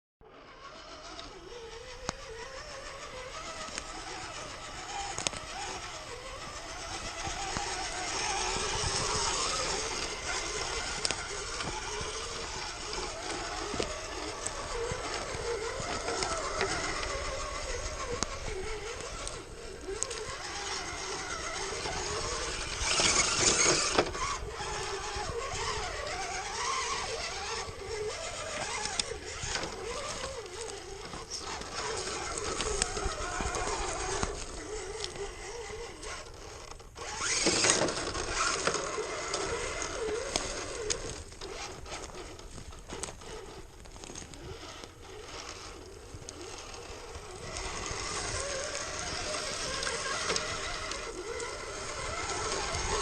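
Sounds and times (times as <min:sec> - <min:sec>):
toy truck motor whining: 0:00.2 - 0:53.0
tyres crunching on rough ground: 0:00.7 - 0:53.0.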